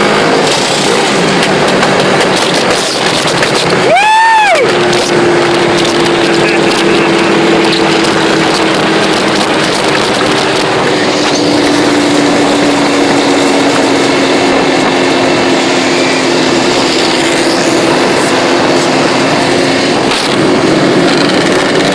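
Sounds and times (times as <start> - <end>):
loud rush of noise: 0.0 - 21.9
quad engine running: 0.0 - 21.9.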